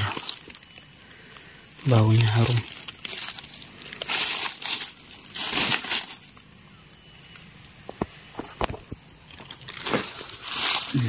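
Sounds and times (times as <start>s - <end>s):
rustling in dry leaves: 0.0s - 6.5s, 8.2s - 11.0s
high-pitched insect drone: 0.0s - 11.0s.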